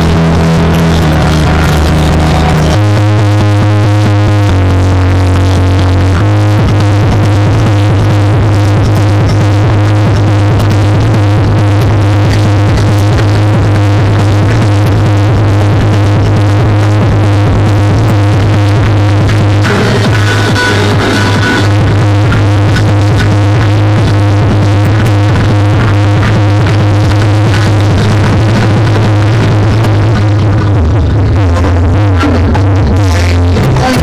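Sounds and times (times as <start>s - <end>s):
heavy bass line: 0.0s - 34.0s
loud electronic synth music: 0.0s - 34.0s.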